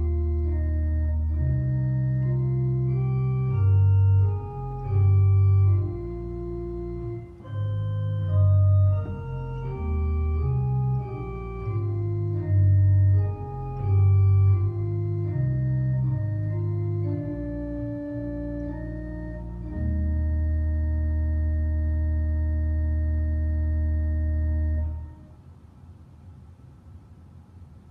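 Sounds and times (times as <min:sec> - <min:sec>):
church organ playing sustained chords: 0:00.0 - 0:25.4.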